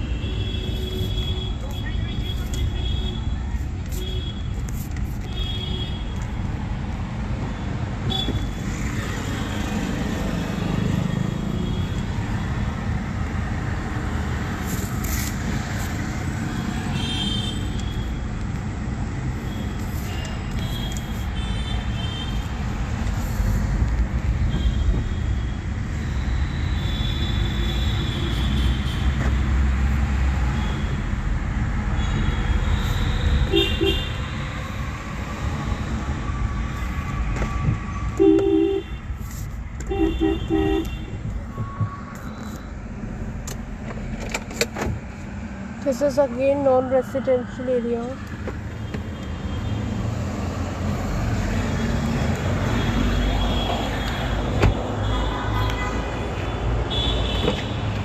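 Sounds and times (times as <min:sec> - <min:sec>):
traffic rumble from inside car: 0:00.4 - 0:26.5, 0:27.9 - 0:58.0.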